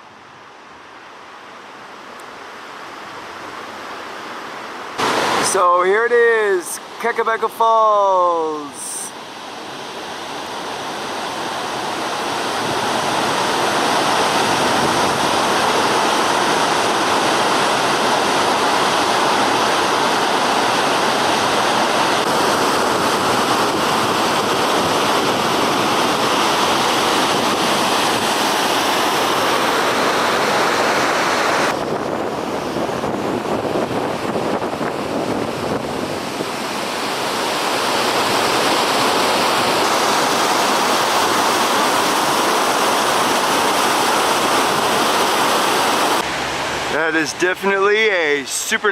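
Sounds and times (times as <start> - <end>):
waterfall rushing: 0.8 - 48.9.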